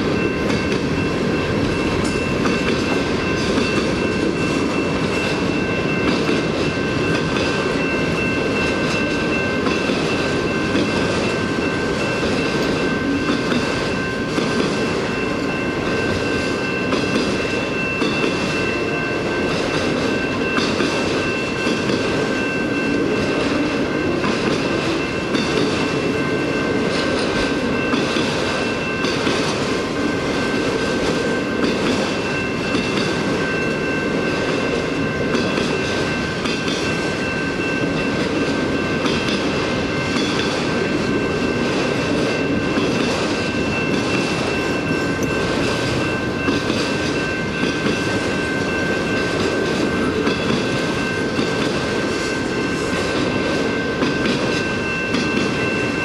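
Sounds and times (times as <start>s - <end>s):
high-pitched tone: 0.0s - 56.0s
train wheels rumbling on rail: 0.0s - 56.0s.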